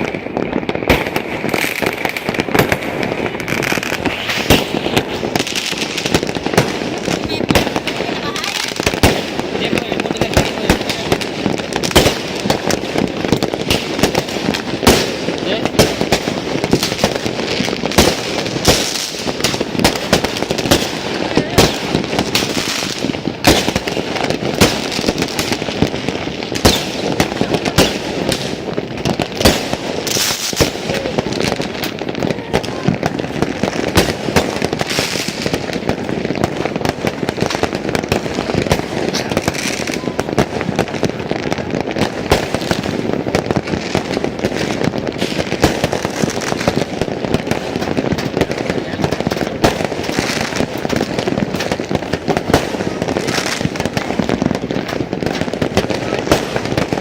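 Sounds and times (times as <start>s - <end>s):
continuous fireworks din: 0.0s - 57.0s
fireworks bangs and pops: 0.0s - 57.0s.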